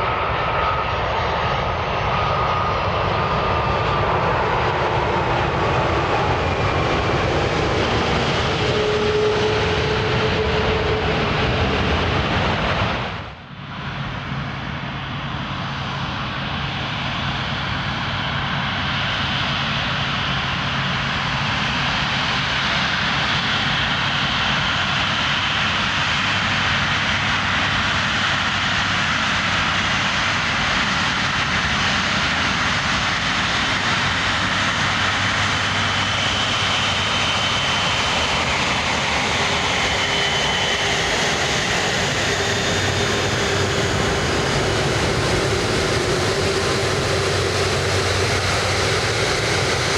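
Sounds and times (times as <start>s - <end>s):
jet engine roar: 0.0s - 49.9s.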